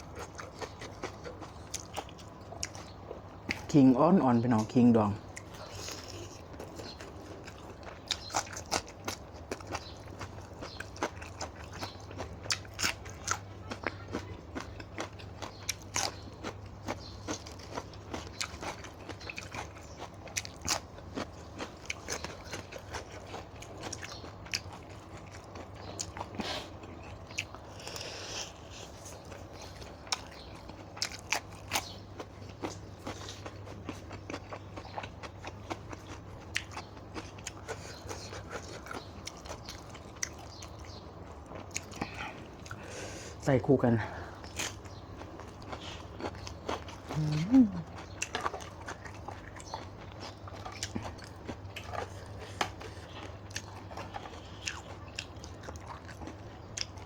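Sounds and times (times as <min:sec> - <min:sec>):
person chewing crunchy food: 0:00.0 - 0:03.8, 0:05.0 - 0:43.4, 0:44.3 - 0:57.0.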